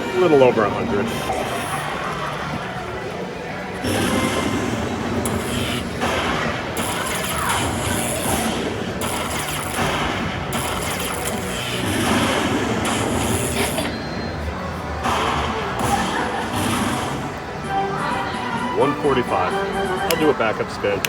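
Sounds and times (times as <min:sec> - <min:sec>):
casino crowd hubbub: 0:00.0 - 0:21.0.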